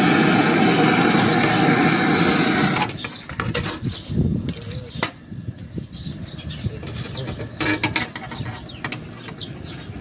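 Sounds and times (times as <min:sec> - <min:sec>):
birds chirping: 0:01.2 - 0:10.0.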